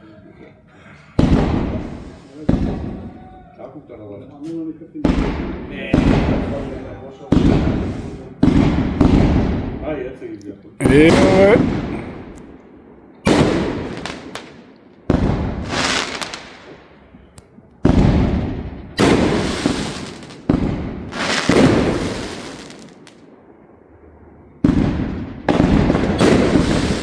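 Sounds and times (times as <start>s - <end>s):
firework bursts with rumbling echo: 1.2s - 3.2s, 5.0s - 10.1s, 10.8s - 17.1s, 17.8s - 23.9s, 24.5s - 27.0s.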